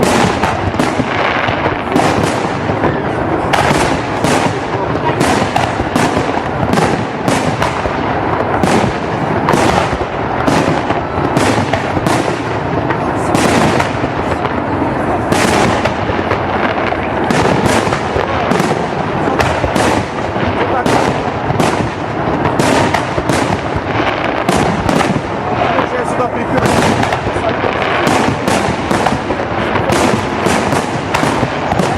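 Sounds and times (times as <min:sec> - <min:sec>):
firework shells bursting: 0:00.0 - 0:31.9
rumble of fireworks display: 0:00.0 - 0:31.9.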